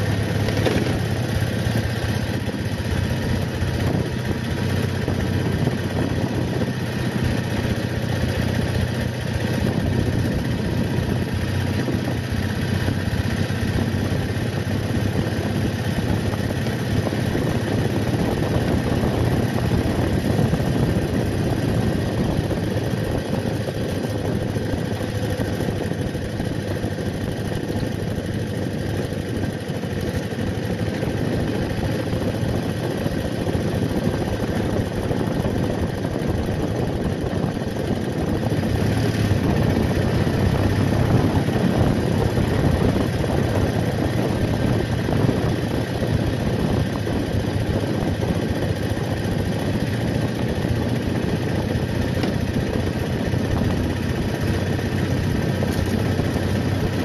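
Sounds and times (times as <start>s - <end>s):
motorcycle engine drone: 0.0s - 57.0s
road noise: 0.0s - 57.0s.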